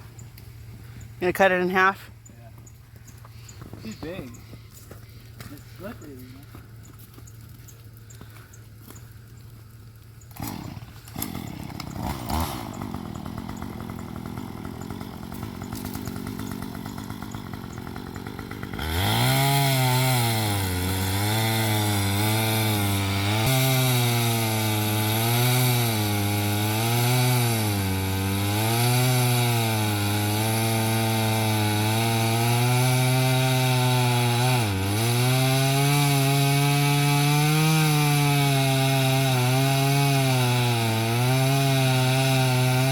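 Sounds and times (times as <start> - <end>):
chainsaw cutting log: 3.2 - 42.9.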